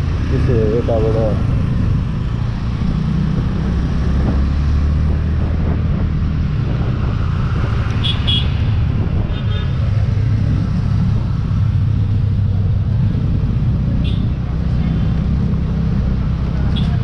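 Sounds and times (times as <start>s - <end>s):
motorcycle engine and road rumble: 0.0s - 17.0s.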